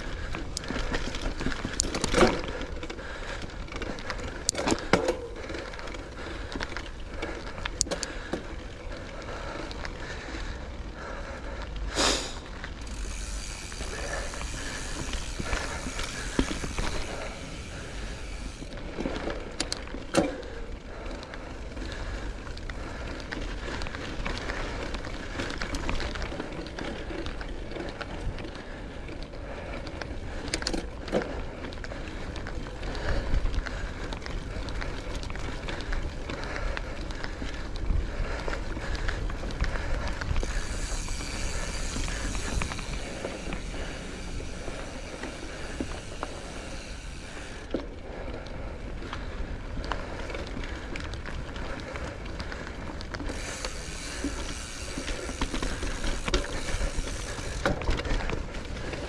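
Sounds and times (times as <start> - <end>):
bike tyre and drivetrain rattle: 0.0 - 59.0.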